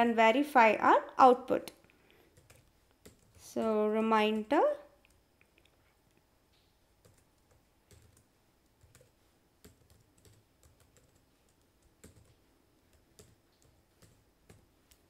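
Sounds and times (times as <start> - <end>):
faint keyboard typing: 1.6 - 15.0.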